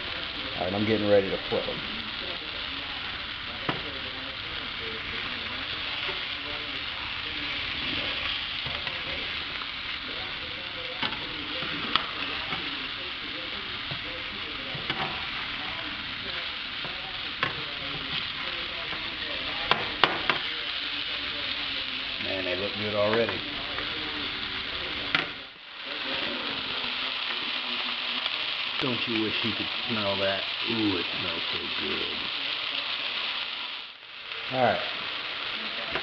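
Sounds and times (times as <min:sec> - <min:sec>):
fish fillets sizzling in a frying pan: 0:00.0 - 0:36.0.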